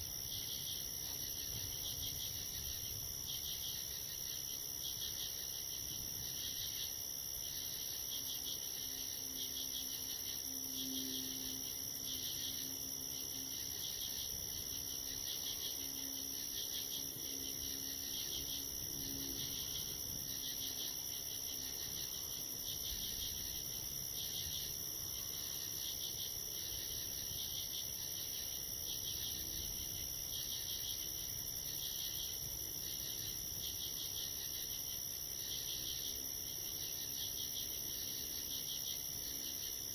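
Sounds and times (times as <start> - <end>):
high cricket trill: 0.0 - 39.9
pulsing insect chorus: 0.0 - 39.9.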